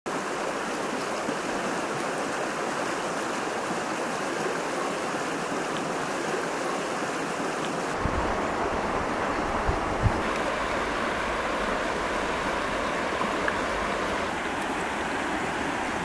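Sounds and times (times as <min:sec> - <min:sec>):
flowing water rushing: 0:00.1 - 0:16.0.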